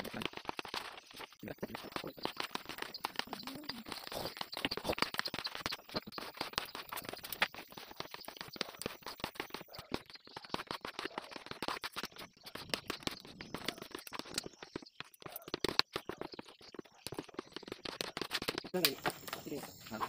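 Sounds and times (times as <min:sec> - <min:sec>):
spreader scraping glue on wood: 0:00.4 - 0:20.0.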